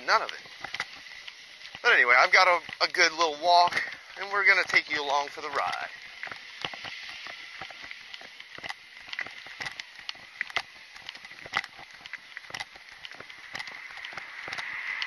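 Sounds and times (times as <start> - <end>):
footsteps on concrete: 0.0 - 15.0.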